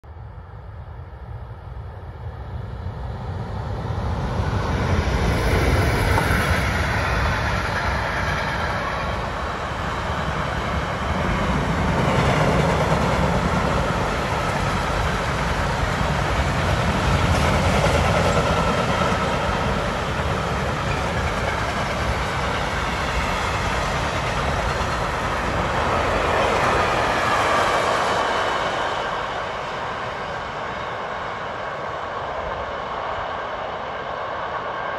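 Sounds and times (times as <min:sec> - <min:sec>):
train wheels running on rails: 0:02.8 - 0:34.9.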